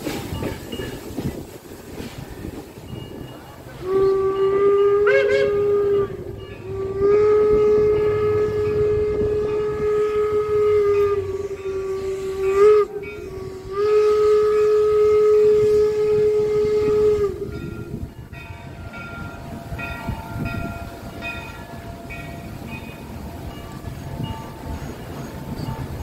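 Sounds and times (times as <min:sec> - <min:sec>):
rumbling train: 0:00.0 - 0:26.0
steam locomotive whistle: 0:03.1 - 0:26.0.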